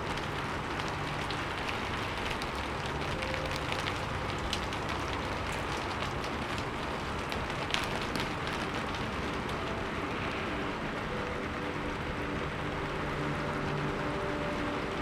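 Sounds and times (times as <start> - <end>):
raindrop hits: 0.0 - 15.0
steady rain: 0.0 - 15.0.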